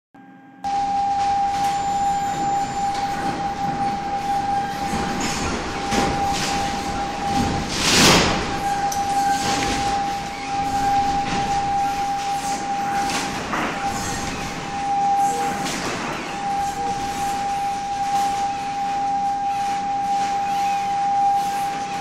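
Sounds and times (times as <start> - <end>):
hydraulic actuators whining: 0.7 - 22.0.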